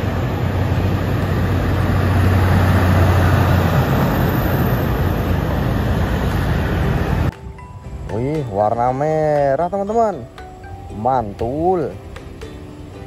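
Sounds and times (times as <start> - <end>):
road traffic: 0.0 - 13.0
truck engine droning: 0.0 - 13.0.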